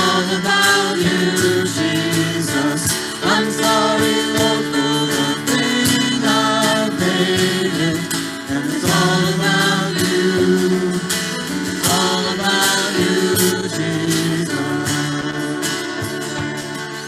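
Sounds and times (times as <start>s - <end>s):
acoustic guitars strumming: 0.0s - 17.0s
electric guitar: 0.0s - 17.0s
keyboard: 0.0s - 17.0s
person singing: 0.0s - 17.0s.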